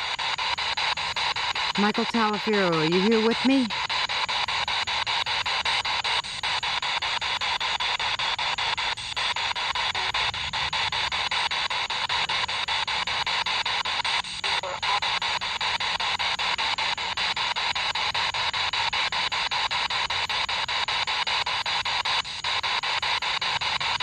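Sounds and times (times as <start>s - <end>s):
choppy radio static hiss: 0.0s - 24.0s.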